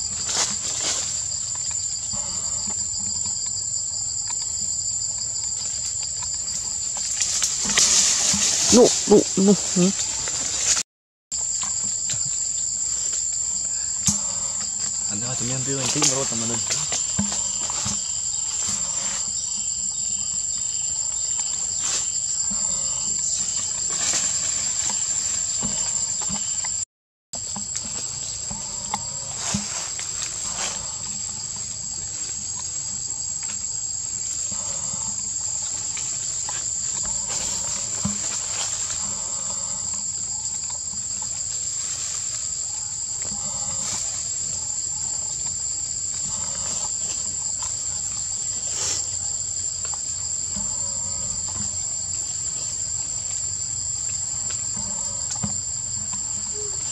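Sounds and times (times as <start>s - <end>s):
insect chorus drone: 0.0s - 26.8s, 27.4s - 56.9s.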